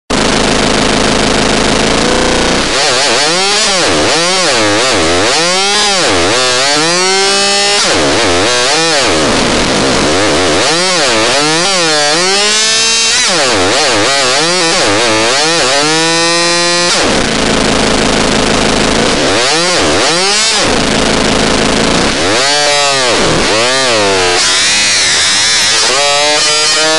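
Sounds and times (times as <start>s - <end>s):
synthesized chainsaw buzz: 0.1s - 26.9s.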